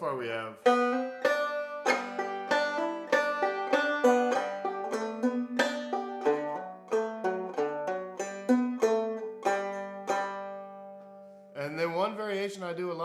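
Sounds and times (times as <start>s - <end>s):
clawhammer banjo tune: 0.0s - 11.4s.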